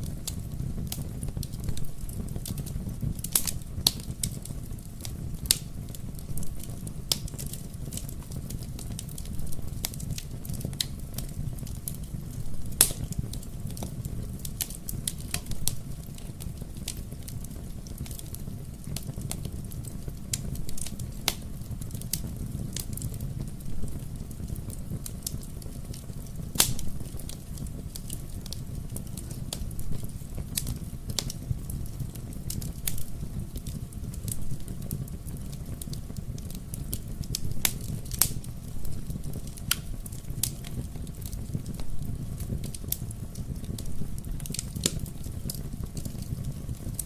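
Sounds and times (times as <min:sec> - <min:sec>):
low rumble of flames: 0:00.0 - 0:47.0
wood fire popping and snapping: 0:00.0 - 0:47.0.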